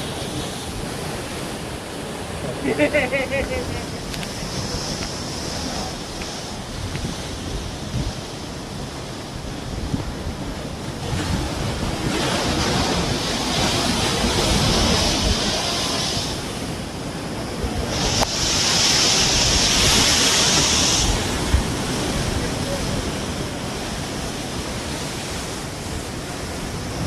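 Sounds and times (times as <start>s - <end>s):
small sea waves breaking: 0.0s - 27.0s.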